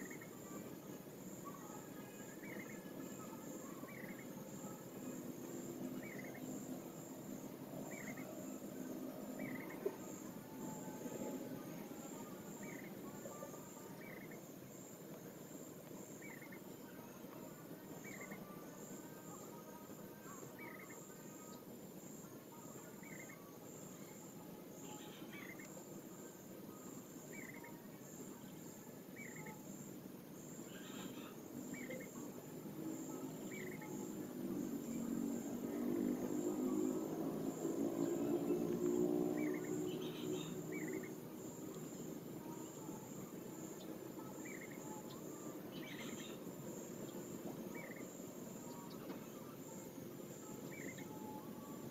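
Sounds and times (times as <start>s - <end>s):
crickets trilling: 0.0s - 51.9s
low noise: 0.0s - 51.9s
short insect chirp: 0.0s - 51.9s.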